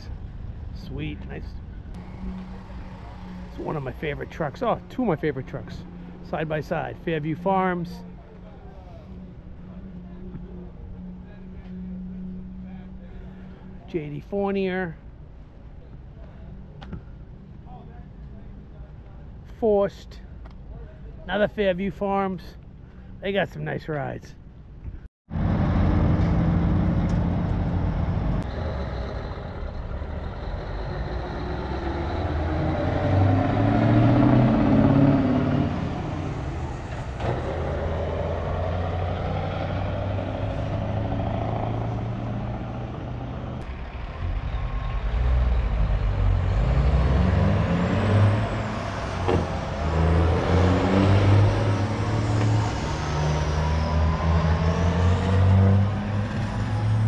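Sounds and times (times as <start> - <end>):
diesel truck engines rumbling: 0.0 - 57.0.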